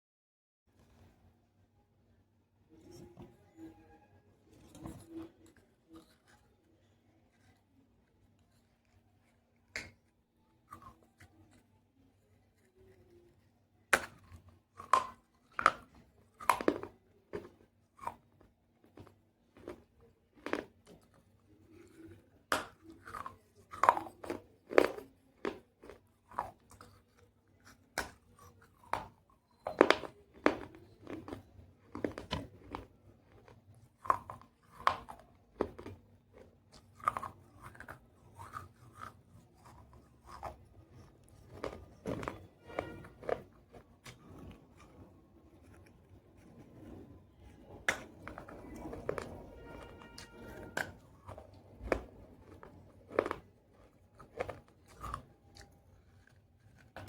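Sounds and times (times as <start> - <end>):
crunching and chewing clay: 4.4 - 57.0.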